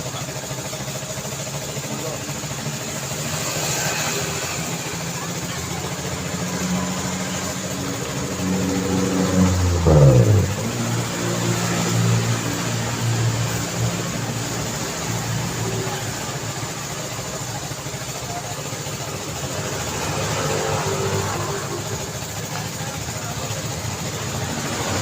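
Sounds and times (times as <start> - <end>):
engines running steadily: 0.0 - 25.0
traffic hum: 0.0 - 25.0
vehicle passing close: 3.1 - 17.5, 18.4 - 25.0.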